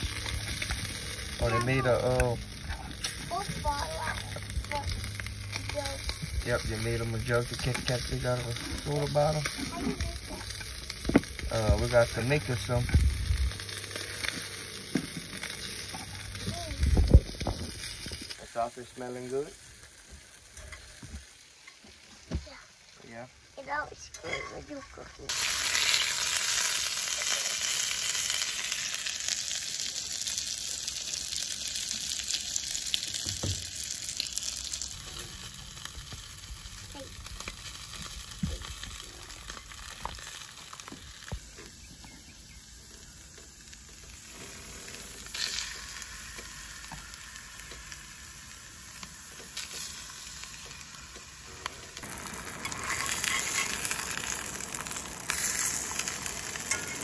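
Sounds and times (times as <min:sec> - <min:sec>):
oil sizzling in a skillet: 0:00.0 - 0:23.9, 0:25.3 - 0:57.0.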